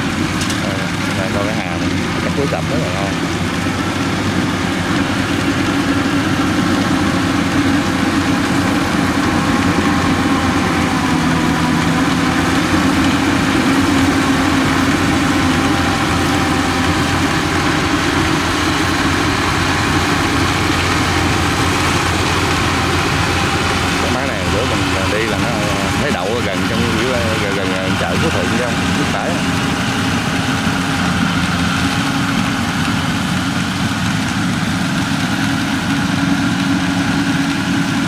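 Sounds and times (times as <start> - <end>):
combine harvester engine running: 0.0 - 38.0.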